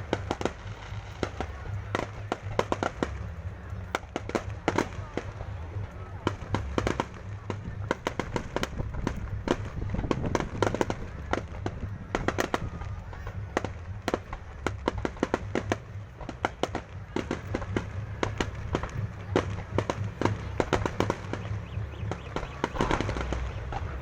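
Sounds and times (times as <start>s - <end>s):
fireworks bangs and pops: 0.0s - 24.0s
low rumble: 0.0s - 24.0s.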